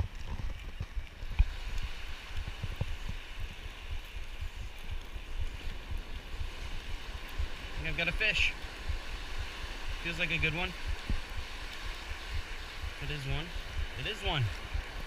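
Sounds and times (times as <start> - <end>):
wind buffeting microphone: 0.0 - 15.0
ocean surf hissing: 1.4 - 15.0.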